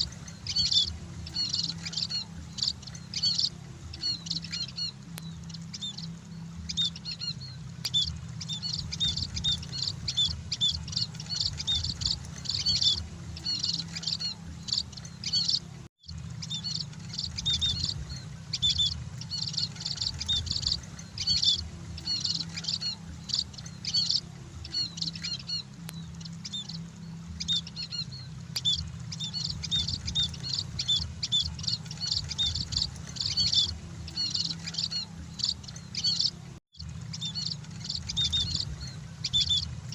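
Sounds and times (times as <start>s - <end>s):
birds chirping: 0.0s - 39.9s
steady low hum: 0.0s - 39.9s.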